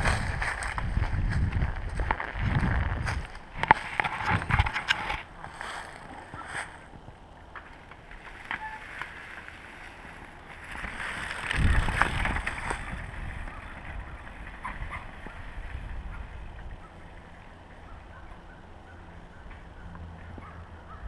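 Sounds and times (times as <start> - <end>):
tyres crunching dry leaves: 0.0 - 17.8
bike low rumble: 0.0 - 21.0.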